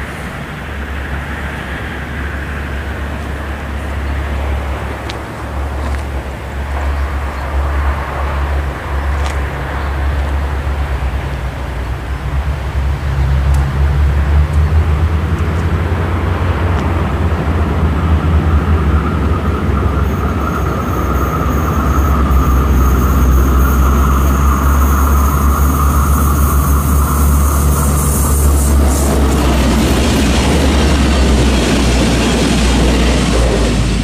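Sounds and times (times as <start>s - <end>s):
diesel railcar engine rumble: 0.0s - 34.0s
wheels hissing and whining on rails: 0.0s - 34.0s.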